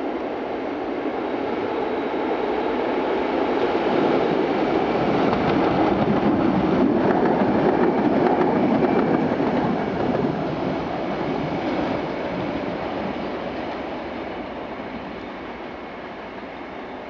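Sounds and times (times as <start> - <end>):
tram wheels rumbling on rails: 2.7 - 17.0.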